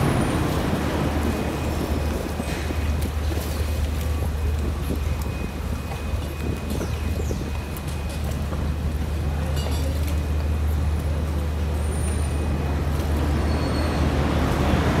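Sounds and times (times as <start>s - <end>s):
ferry engine humming: 0.0s - 15.0s.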